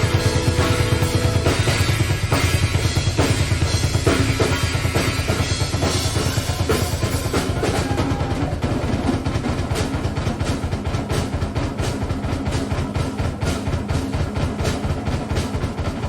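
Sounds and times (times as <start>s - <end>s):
drum kit solo: 0.0s - 16.0s.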